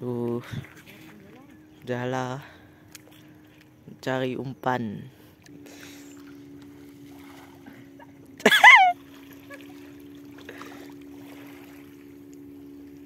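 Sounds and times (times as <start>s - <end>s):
steady low hum: 0.0s - 13.0s
sea water splashing and trickling: 0.2s - 13.0s.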